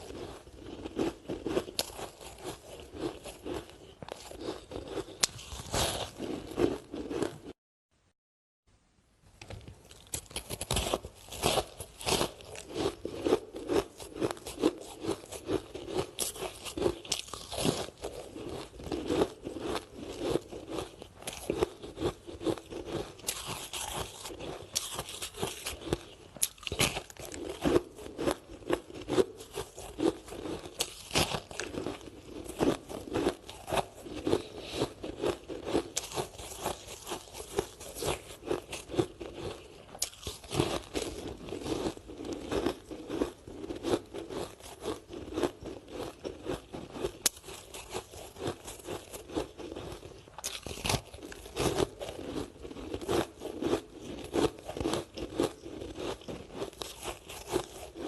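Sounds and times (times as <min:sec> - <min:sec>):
ice being chewed: 0:00.0 - 0:07.6, 0:09.6 - 0:58.0.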